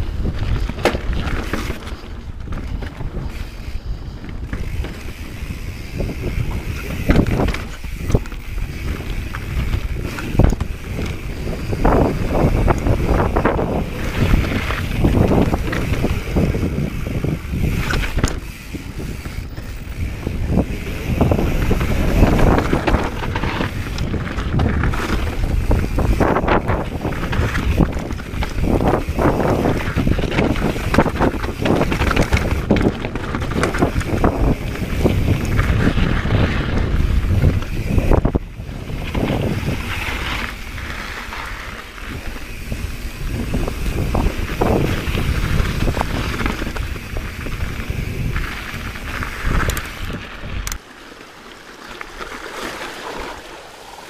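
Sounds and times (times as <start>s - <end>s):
wind buffeting microphone: 0.0s - 50.8s
bike rattling over bumps: 0.0s - 54.0s
tyres rumbling on dirt and rock: 0.0s - 54.0s.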